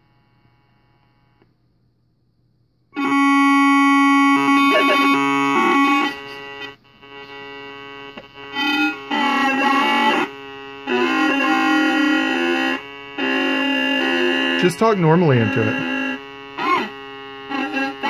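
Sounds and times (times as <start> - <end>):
sustained electronic synthesizer tones: 3.0 - 18.0.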